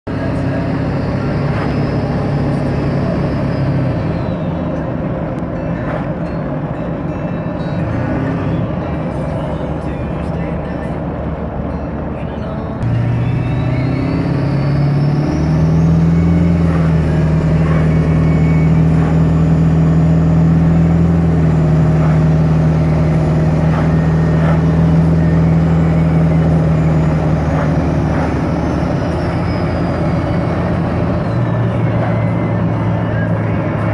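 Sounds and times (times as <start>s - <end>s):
turbocharger whistling: 0.0s - 10.0s, 12.8s - 33.9s.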